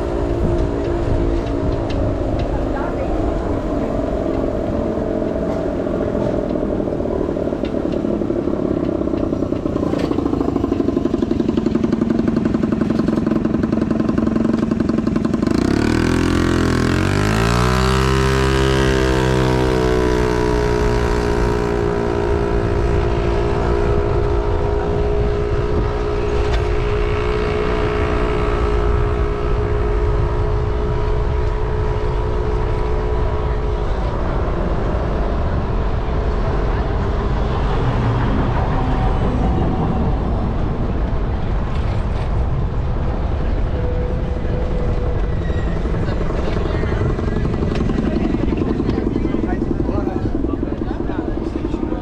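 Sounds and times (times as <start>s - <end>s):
motor engine speeding up: 0.0s - 52.0s
wind and road noise: 0.0s - 52.0s.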